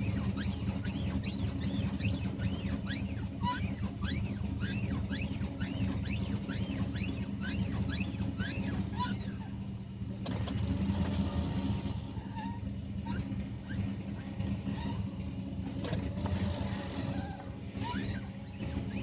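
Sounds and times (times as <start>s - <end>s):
high descending squeaks: 0.0s - 9.6s, 11.0s - 19.0s
steady low hum: 0.0s - 19.0s.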